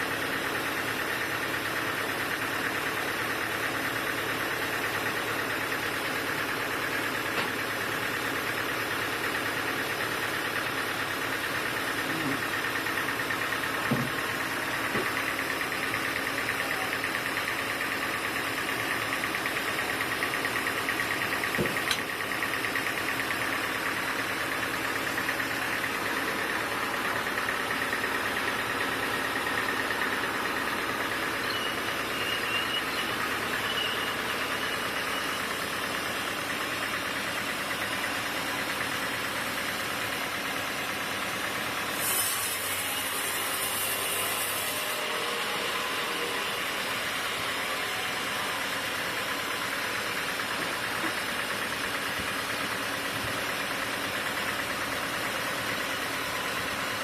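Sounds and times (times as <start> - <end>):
sawmill machinery drone: 0.0 - 57.0.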